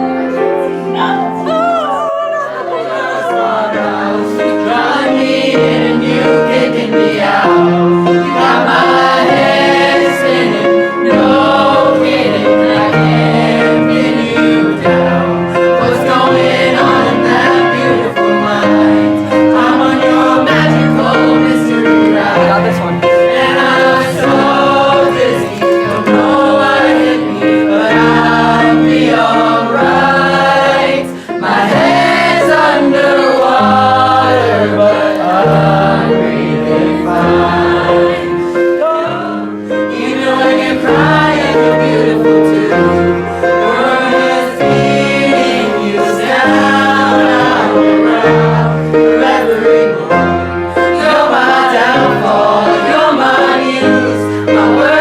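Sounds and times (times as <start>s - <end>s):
group of voices singing: 0.0s - 55.0s.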